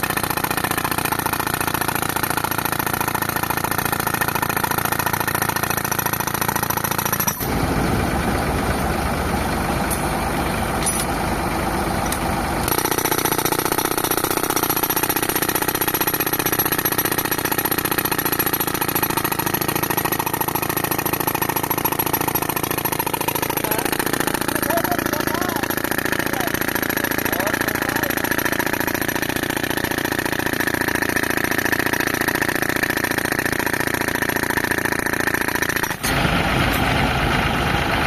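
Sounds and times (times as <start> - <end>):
pneumatic rock breaker hammering: 0.0 - 37.2
air compressor running: 0.0 - 38.0.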